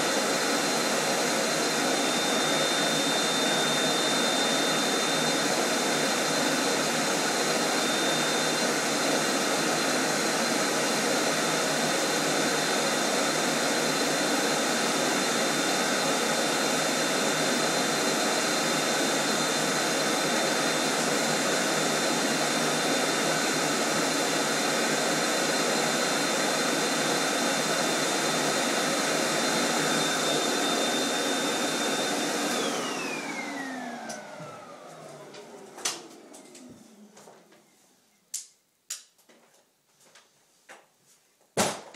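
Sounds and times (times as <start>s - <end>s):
vacuum cleaner motor whining: 0.0s - 37.7s.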